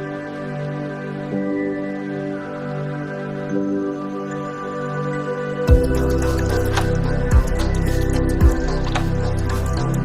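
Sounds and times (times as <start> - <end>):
slow gentle background music: 0.0 - 10.0.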